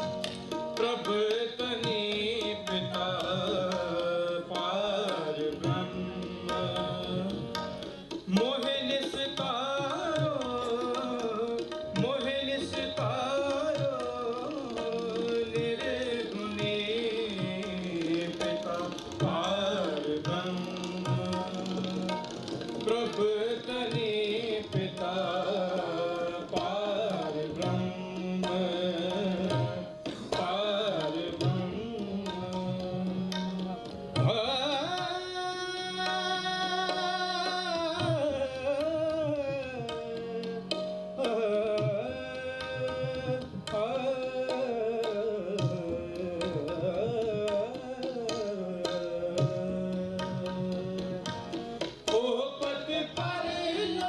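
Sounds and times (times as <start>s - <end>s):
harmonium melody: 0.0s - 54.0s
tabla strokes: 0.0s - 54.0s.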